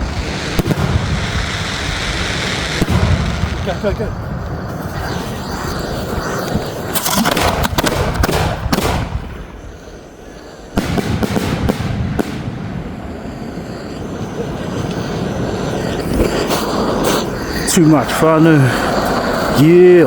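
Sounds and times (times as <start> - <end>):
fireworks crackling bangs: 0.0 - 20.0.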